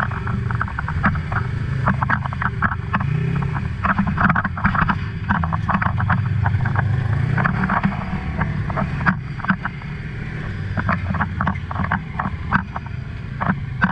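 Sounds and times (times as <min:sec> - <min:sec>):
utility vehicle engine running: 0:00.0 - 0:13.9.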